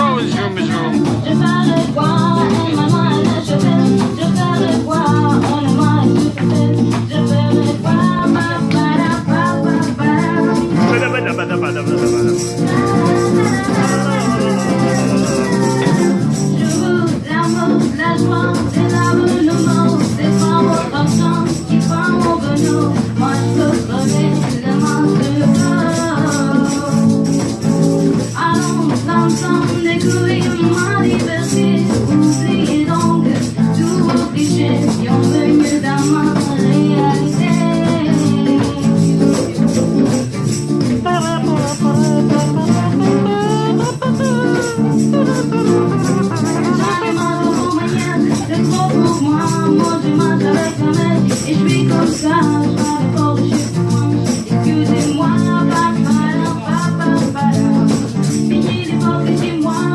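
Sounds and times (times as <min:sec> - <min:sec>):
person singing: 0:00.0 - 0:27.6, 0:28.2 - 0:40.2, 0:40.8 - 0:59.9
acoustic guitar: 0:00.0 - 0:59.9
shaker rhythm: 0:00.0 - 0:59.9.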